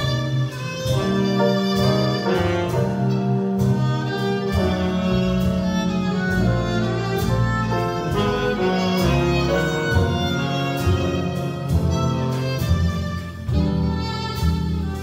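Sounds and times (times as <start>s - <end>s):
drums with cymbals: 0.0s - 15.0s
piano: 0.0s - 15.0s
upright bass: 0.0s - 15.0s
violin melody: 0.0s - 15.0s.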